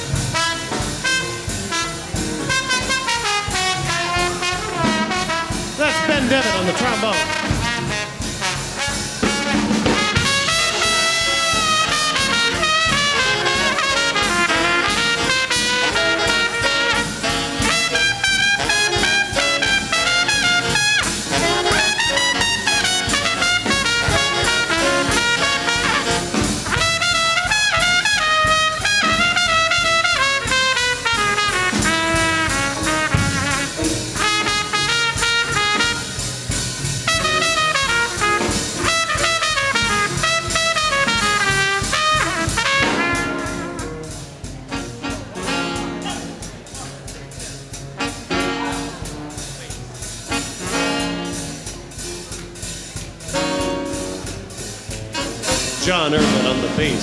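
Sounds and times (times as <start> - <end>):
saxophone section: 0.0 - 46.8, 47.8 - 57.0
trumpet: 0.0 - 46.9, 47.7 - 57.0
drums: 0.0 - 57.0
upright bass: 0.0 - 57.0.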